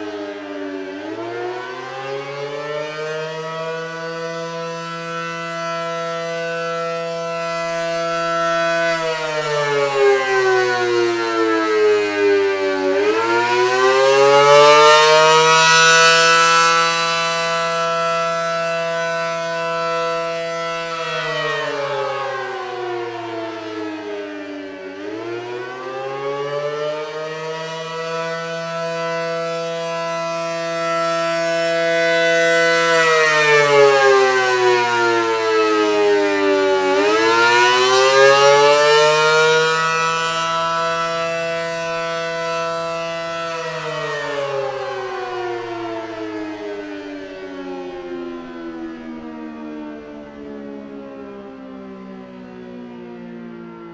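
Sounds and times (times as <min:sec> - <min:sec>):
warning siren wailing: 0:00.0 - 0:53.9.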